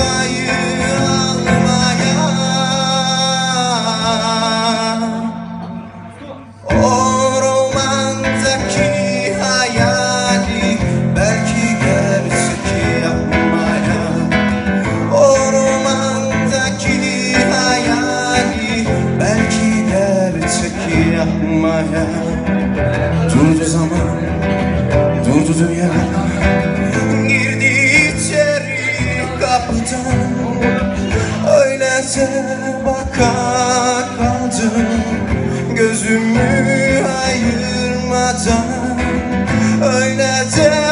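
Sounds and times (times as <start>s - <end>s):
man singing: 0.0s - 40.9s
strummed acoustic guitar: 0.0s - 40.9s.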